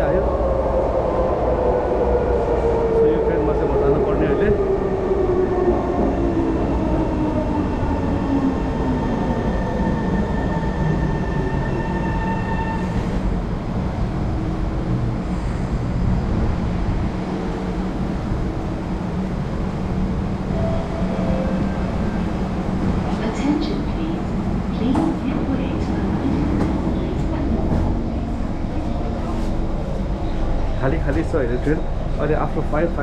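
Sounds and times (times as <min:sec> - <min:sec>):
metro train rumbling: 0:00.0 - 0:33.0.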